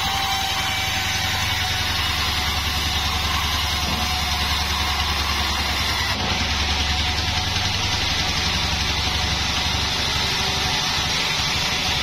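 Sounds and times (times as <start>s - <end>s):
sawmill engine drone: 0.0s - 12.0s.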